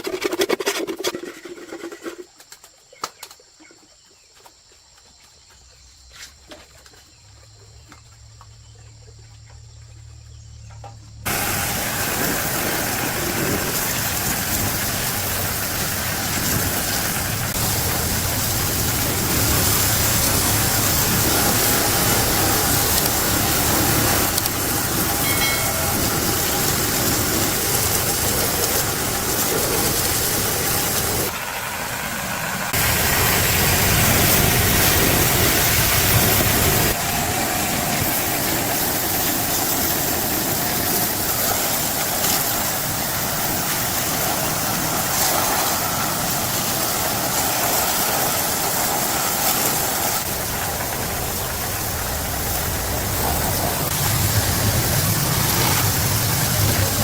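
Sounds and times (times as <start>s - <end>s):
machinery humming: 11.1s - 57.0s.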